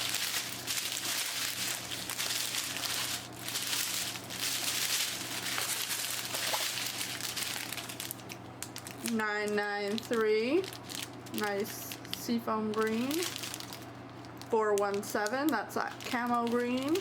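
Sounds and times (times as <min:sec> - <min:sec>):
plastic bags crinkling: 0:00.0 - 0:17.0
room fan humming: 0:00.0 - 0:17.0.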